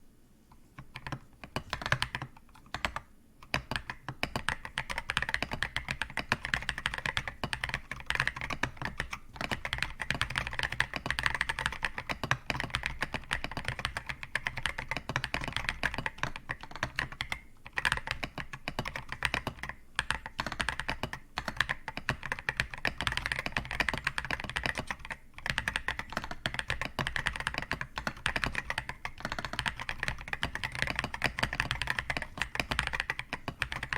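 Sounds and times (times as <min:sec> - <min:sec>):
fast keyboard typing: 0:00.8 - 0:33.9.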